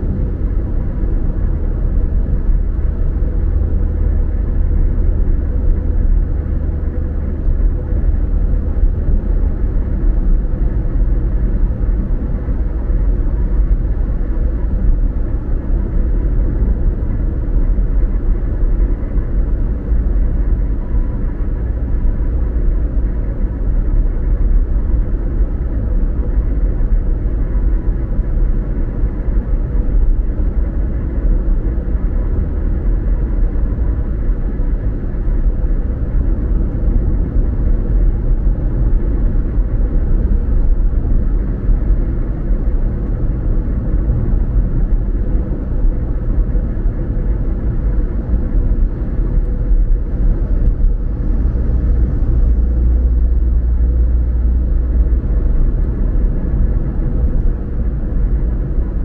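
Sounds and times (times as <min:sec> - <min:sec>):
car tyre and engine rumble: 0:00.0 - 0:59.0.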